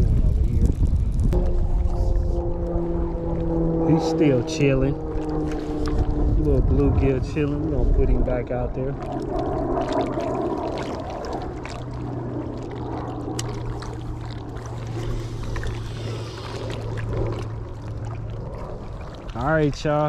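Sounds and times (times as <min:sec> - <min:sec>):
low steady hum: 0:00.0 - 0:20.0
wind: 0:00.0 - 0:20.0.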